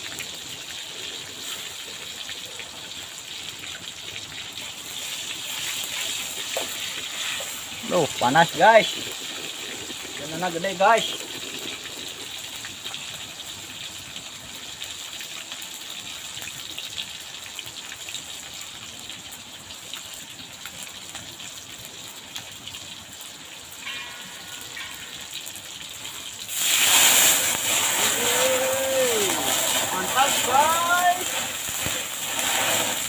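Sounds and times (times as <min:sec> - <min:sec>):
water boiling in a pot: 0:00.0 - 0:33.0.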